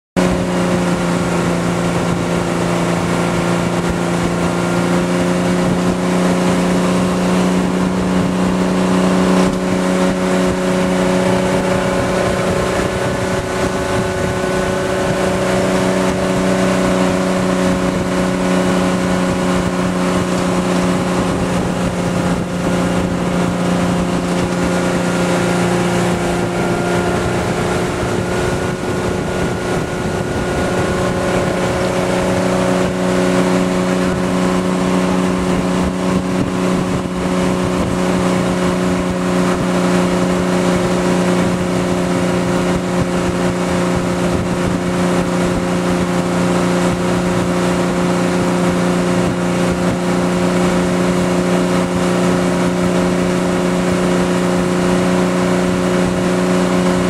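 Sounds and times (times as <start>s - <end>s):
boat engine running: 0.2s - 57.0s.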